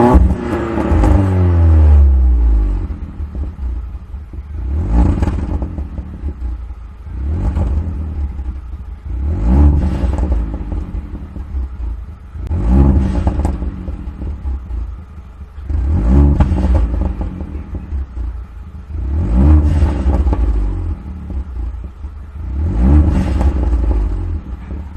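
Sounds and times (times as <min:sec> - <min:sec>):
car engine revving: 0:00.0 - 0:24.9
exhaust crackles and pops: 0:00.0 - 0:24.9.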